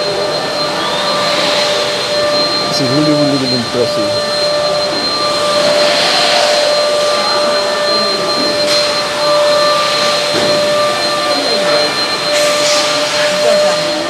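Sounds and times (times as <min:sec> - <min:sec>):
electric motor whirring: 0:00.6 - 0:14.0.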